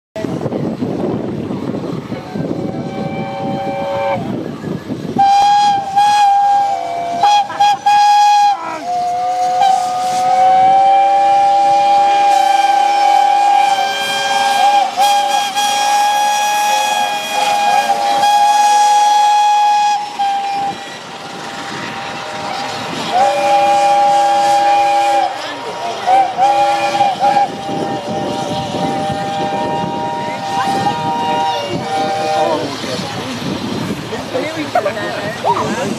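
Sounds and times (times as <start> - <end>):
steam train passing: 0.2 - 35.9
steam whistles blasting: 2.5 - 4.4, 5.2 - 32.9.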